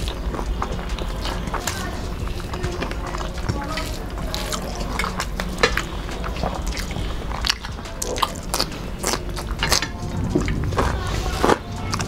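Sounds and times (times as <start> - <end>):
chewing and crunching: 0.0 - 12.0
mouth smacks: 0.0 - 12.0.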